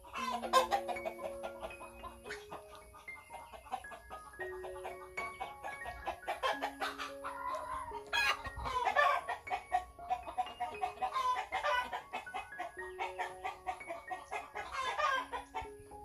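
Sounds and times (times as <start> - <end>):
chickens clucking: 0.0 - 16.0
music with long held notes: 0.0 - 16.0.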